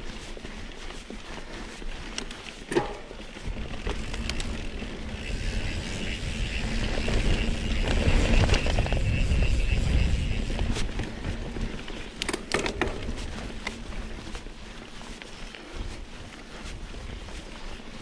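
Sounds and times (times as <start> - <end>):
bike rattling clicks: 0.0 - 15.7
bike tyres on dirt trail: 0.0 - 18.0
wind rumbling on microphone: 3.0 - 18.0.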